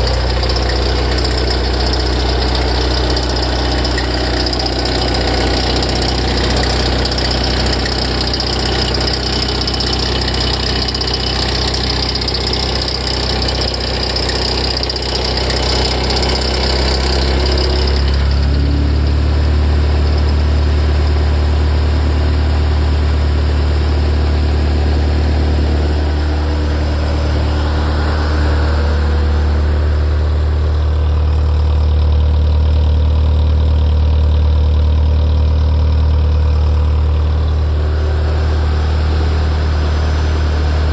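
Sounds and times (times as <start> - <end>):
high-pitched engine noise: 0.0 - 31.8, 36.5 - 40.9
car engine idling: 0.0 - 40.9.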